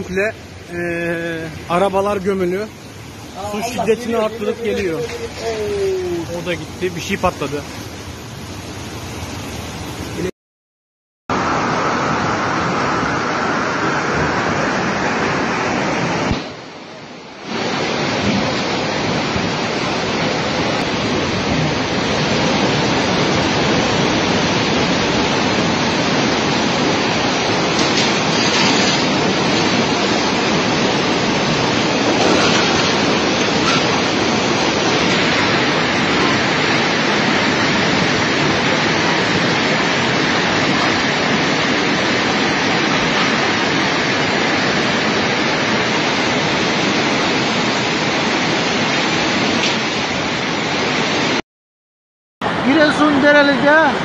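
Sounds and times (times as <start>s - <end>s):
floodwater rushing: 0.0s - 10.3s, 11.3s - 51.4s, 52.4s - 54.0s.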